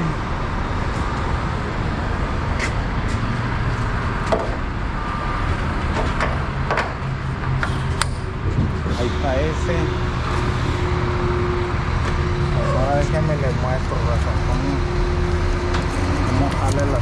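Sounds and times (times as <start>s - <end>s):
truck engines idling: 0.0s - 17.0s.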